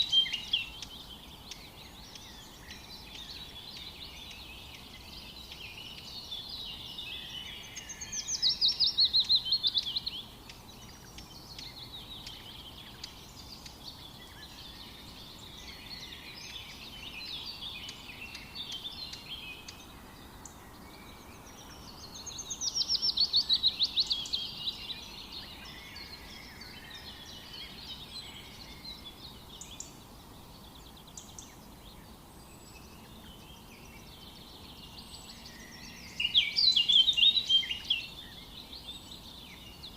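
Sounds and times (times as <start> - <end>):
birds singing: 0.0 - 39.9
soft steady hiss: 0.0 - 39.9.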